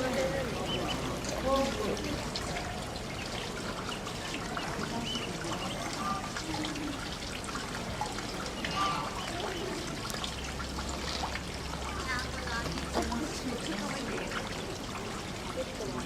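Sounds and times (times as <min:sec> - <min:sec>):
water trickling and pouring: 0:00.0 - 0:16.0.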